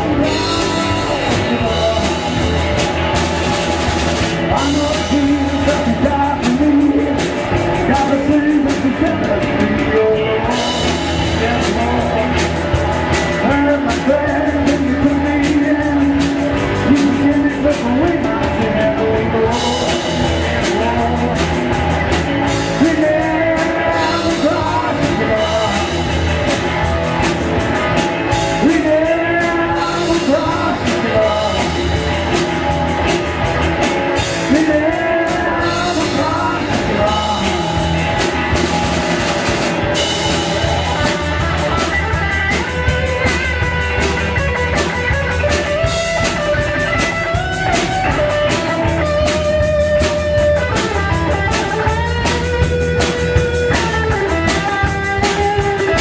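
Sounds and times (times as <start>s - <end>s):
rock song with singing: 0.0s - 56.0s.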